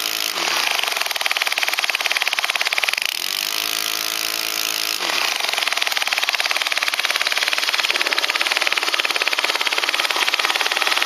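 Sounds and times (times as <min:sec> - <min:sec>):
model aircraft engine idling: 0:00.0 - 0:03.0, 0:05.0 - 0:11.0.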